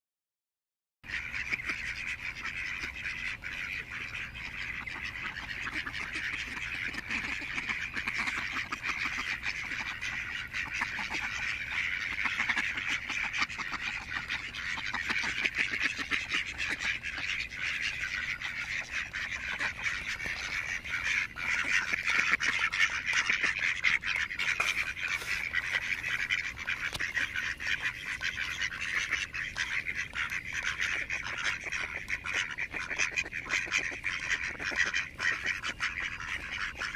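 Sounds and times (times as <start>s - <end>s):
ducks quacking: 1.1s - 36.9s.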